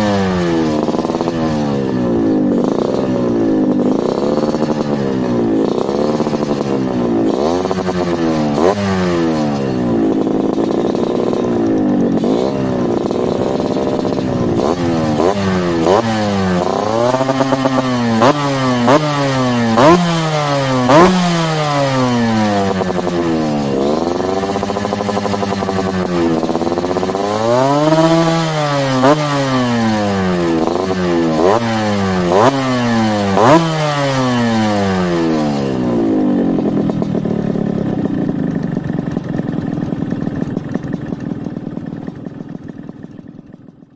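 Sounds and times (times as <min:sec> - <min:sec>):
motorcycle engine idling: 0:00.0 - 0:43.9
motorcycle engine revving: 0:00.0 - 0:43.9.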